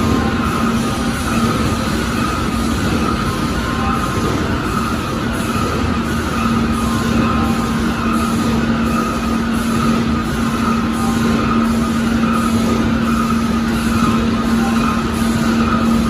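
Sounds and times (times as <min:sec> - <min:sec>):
production line machinery humming: 0:00.0 - 0:16.0
soft machine pulse: 0:00.0 - 0:16.0.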